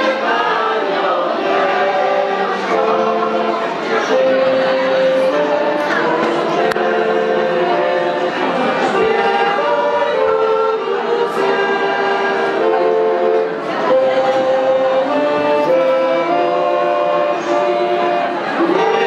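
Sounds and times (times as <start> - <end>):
choir singing in unison: 0.0 - 19.0
piano accordion: 0.0 - 19.0.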